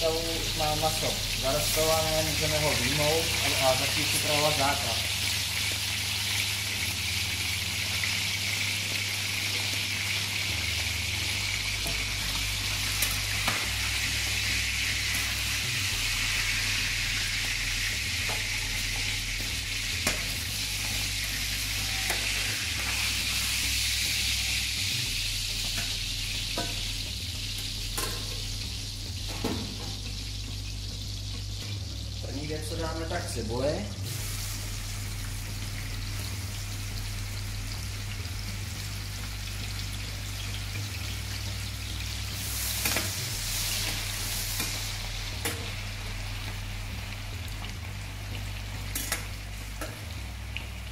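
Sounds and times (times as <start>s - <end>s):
meat sizzling in a pan: 0.0s - 50.9s.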